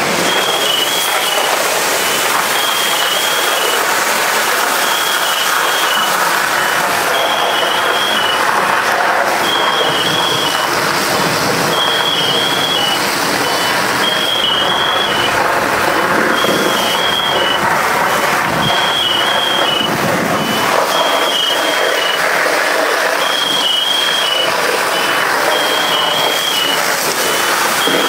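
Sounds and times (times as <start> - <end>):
water spraying from hose nozzle: 0.0 - 28.0
high electronic alarm beeps: 0.2 - 8.8, 9.4 - 22.4, 23.0 - 28.0.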